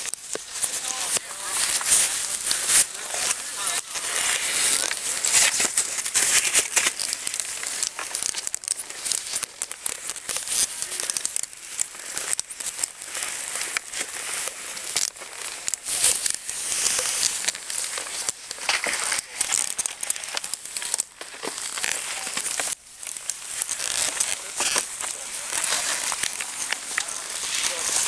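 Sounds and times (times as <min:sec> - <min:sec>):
close rustling and crackling: 0:00.0 - 0:28.0.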